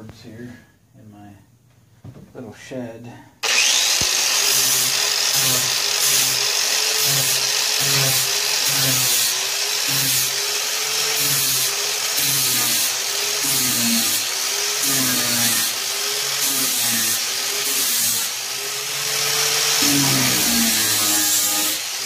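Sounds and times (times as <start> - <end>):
angle grinder grinding: 3.4 - 22.0.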